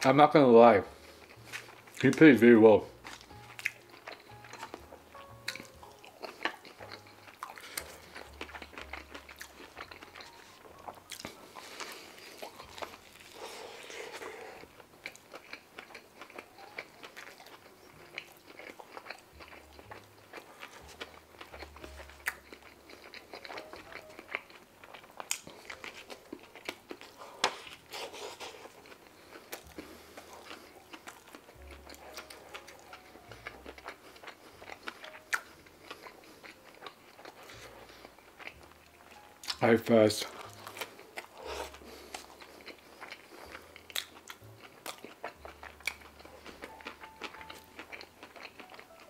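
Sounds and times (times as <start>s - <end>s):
wet chewing mouth clicks: 3.0s - 39.6s, 40.3s - 49.0s.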